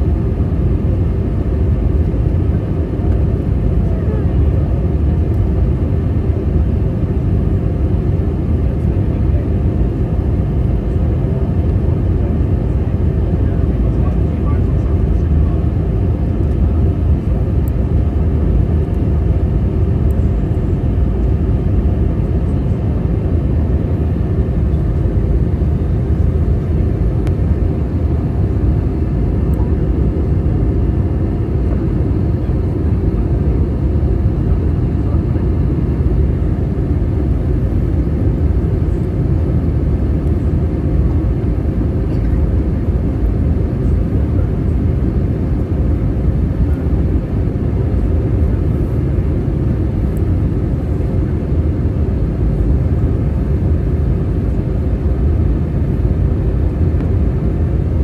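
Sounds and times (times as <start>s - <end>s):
airplane cabin rumble: 0.0s - 58.0s
faint steady hums: 0.0s - 58.0s.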